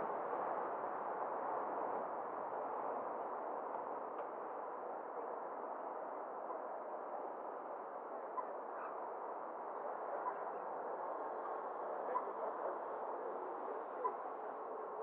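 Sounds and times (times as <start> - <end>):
muffled road and traffic noise: 0.0 - 15.0.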